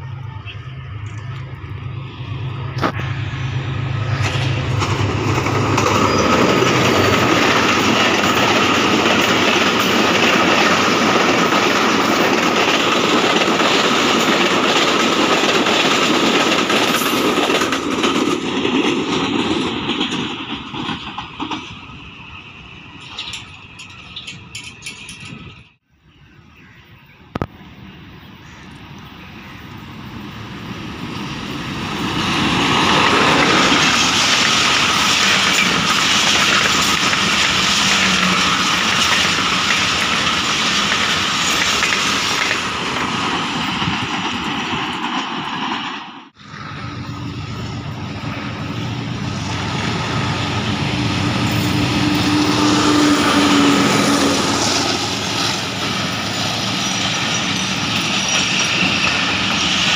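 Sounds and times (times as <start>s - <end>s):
diesel locomotive approaching: 0.0s - 59.9s
passenger train passing: 0.0s - 59.9s.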